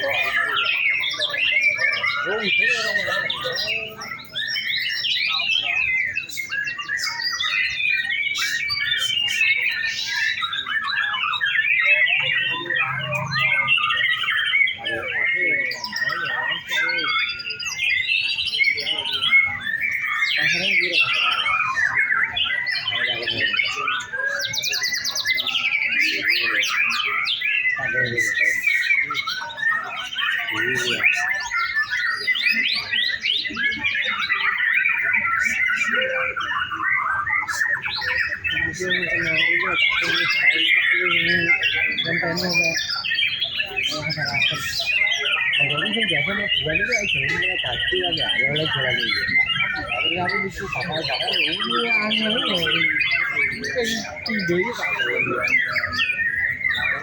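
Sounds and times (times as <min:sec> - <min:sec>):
birds singing whistled phrases: 0:00.0 - 0:57.0.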